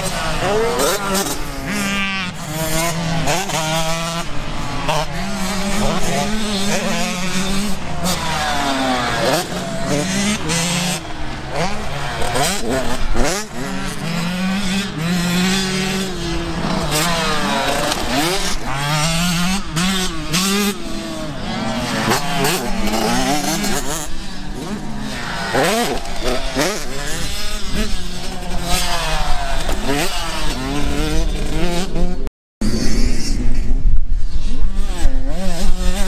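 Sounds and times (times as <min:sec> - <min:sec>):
dirt bike engines: 0:00.0 - 0:36.0.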